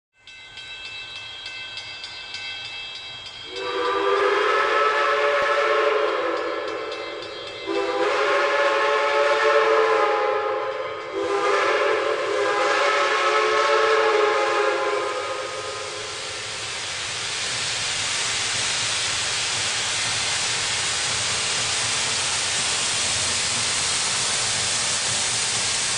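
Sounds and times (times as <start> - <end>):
steam locomotive chime whistle: 0.2 - 25.9.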